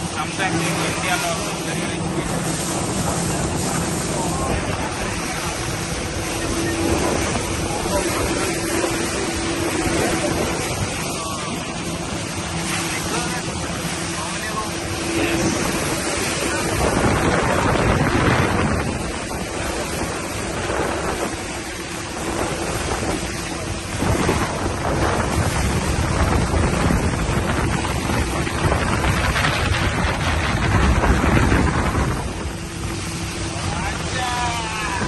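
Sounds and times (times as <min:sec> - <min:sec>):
speedboat engine drone: 0:00.0 - 0:35.0
water rushing: 0:00.0 - 0:35.0
wind buffeting microphone: 0:00.0 - 0:35.0.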